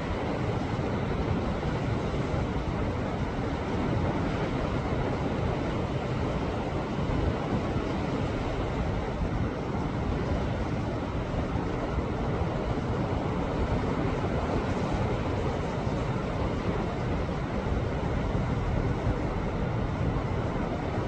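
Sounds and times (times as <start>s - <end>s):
waves on a rocky shore: 0.0s - 21.0s.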